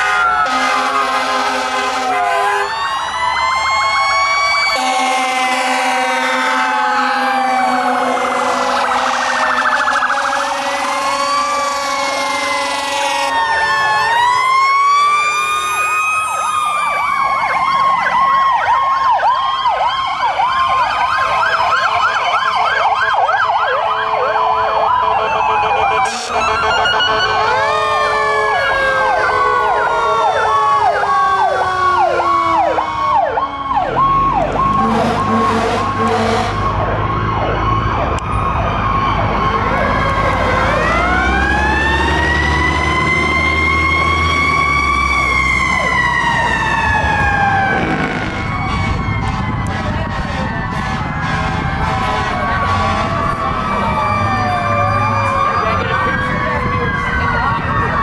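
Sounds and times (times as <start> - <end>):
fire truck sirens wailing: 0.0 - 58.0
siren yelping rapidly: 0.0 - 58.0.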